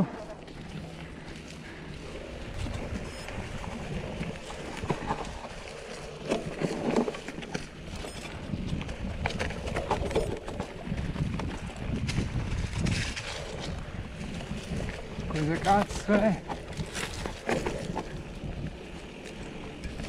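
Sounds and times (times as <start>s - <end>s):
bike knocking and rattling: 0.0s - 20.0s
bike tyres rolling on dirt: 0.0s - 20.0s.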